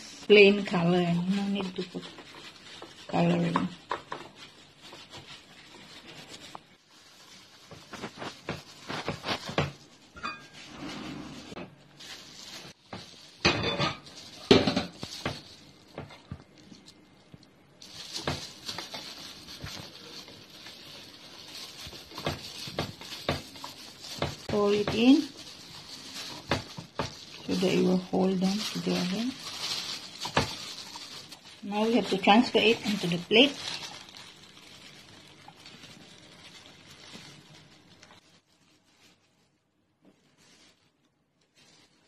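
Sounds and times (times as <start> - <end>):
plastic cling wrap crinkling: 0.0 - 42.0.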